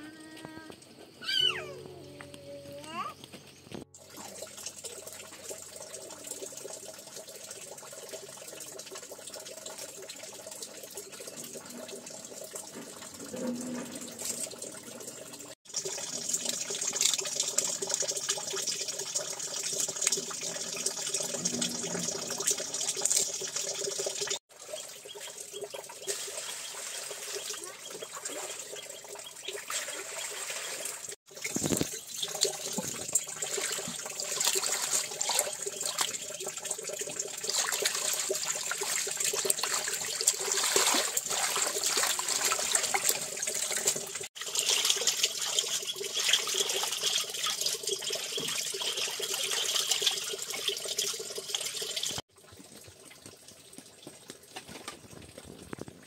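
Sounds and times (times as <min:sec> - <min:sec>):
running water trickling: 0:00.0 - 0:56.0.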